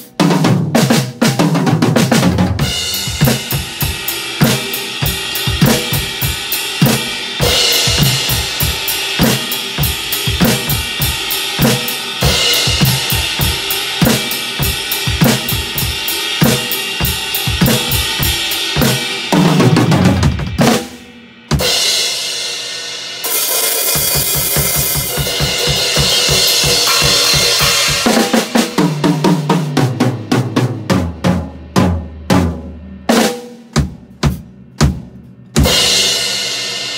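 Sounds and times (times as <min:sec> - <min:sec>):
drum kit beat: 0:00.0 - 0:36.9.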